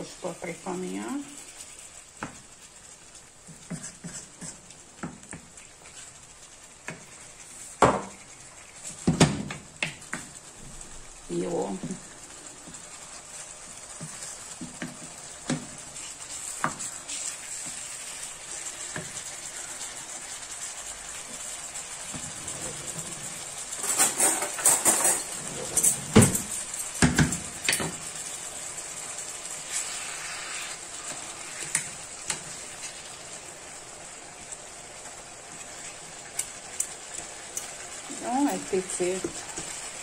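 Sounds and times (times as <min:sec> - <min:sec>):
wooden spoon scraping a pan: 0:00.0 - 0:10.4, 0:11.3 - 0:33.3, 0:35.4 - 0:40.0
chicken sizzling in a frying pan: 0:00.0 - 0:40.0.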